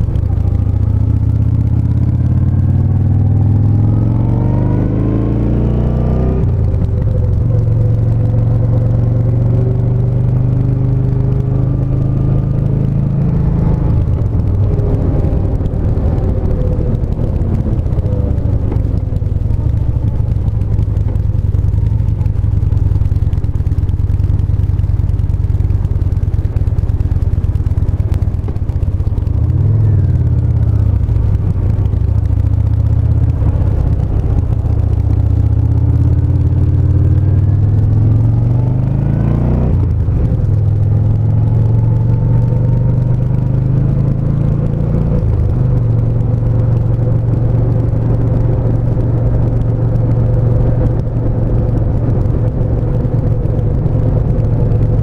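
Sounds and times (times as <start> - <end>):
gear change: 0.0 - 55.0
motorcycle engine accelerating: 0.0 - 55.0.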